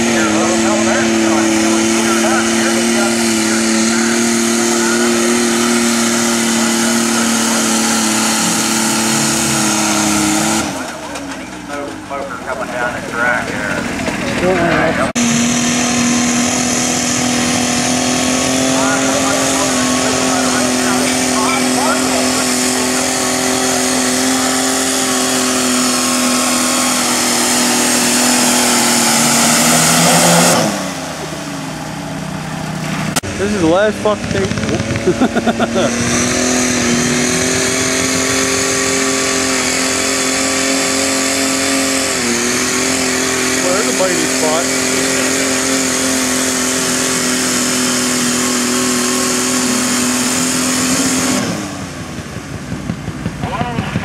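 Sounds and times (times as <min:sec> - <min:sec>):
diesel engine at high revs: 0:00.0 - 0:54.0.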